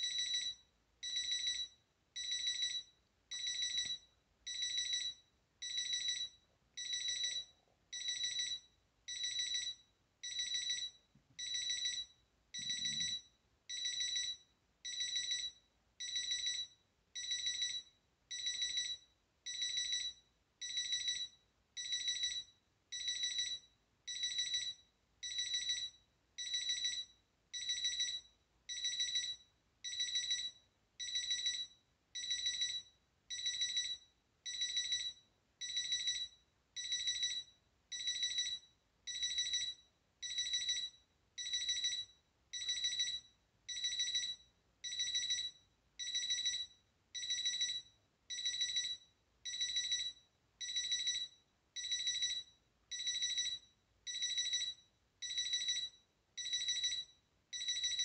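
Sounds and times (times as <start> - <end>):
alarm clock beeping: 0.0 - 58.0.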